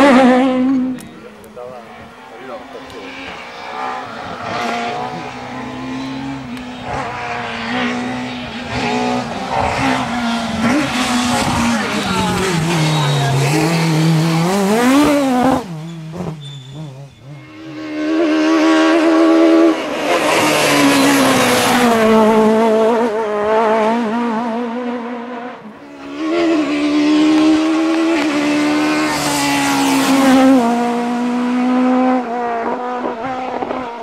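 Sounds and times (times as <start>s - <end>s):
rally car engine at full throttle: 0.0s - 34.0s.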